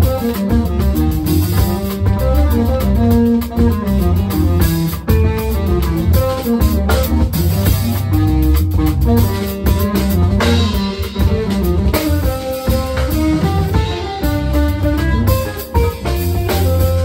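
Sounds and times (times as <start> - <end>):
drum kit: 0.0 - 17.0
electric bass: 0.0 - 17.0
electric guitar melody: 0.0 - 17.0.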